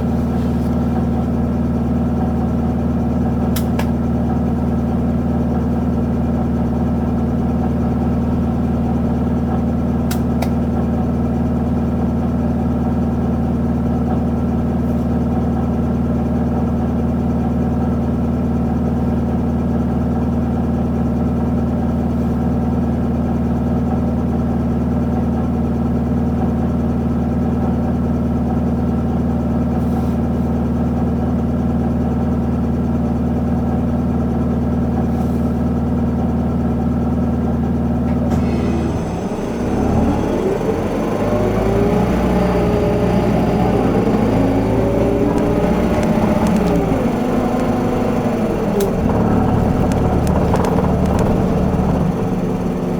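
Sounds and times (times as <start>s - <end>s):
bus diesel engine idling: 0.0s - 23.9s, 26.5s - 52.9s.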